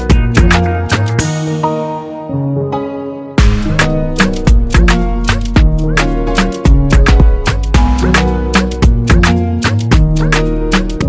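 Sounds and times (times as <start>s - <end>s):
upbeat dance music: 0.0s - 2.2s, 3.4s - 11.0s.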